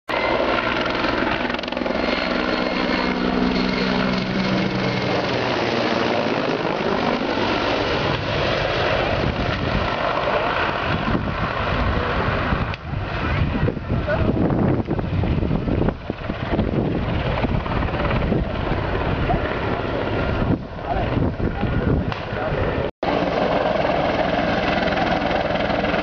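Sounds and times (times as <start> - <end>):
helicopter flying overhead: 0.1 - 26.0.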